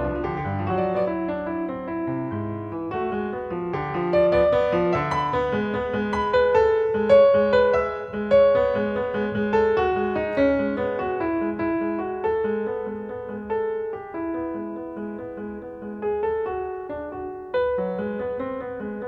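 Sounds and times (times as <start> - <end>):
solo piano playing: 0.0 - 19.0.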